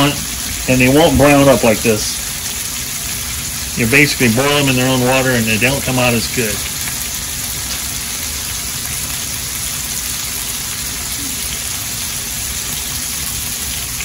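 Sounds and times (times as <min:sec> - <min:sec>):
scallops sizzling in a frying pan: 0:00.0 - 0:14.0.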